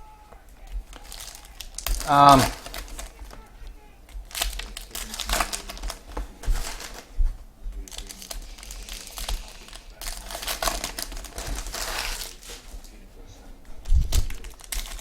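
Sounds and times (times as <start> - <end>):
cards being handled: 0.0 - 15.0
wrappers crinkling and tearing: 0.0 - 15.0.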